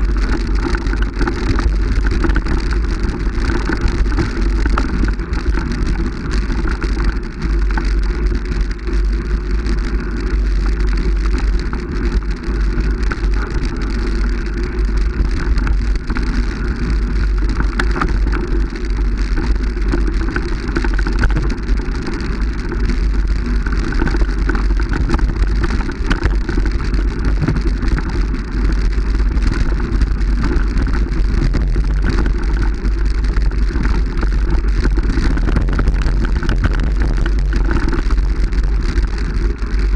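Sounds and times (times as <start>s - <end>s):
rumble and crackling noise: 0.0s - 39.9s.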